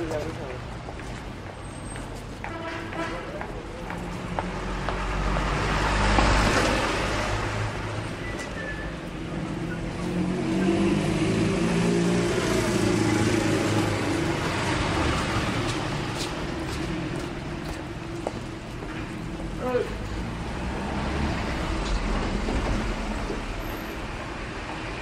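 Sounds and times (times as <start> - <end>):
cars passing by: 0.0 - 25.0.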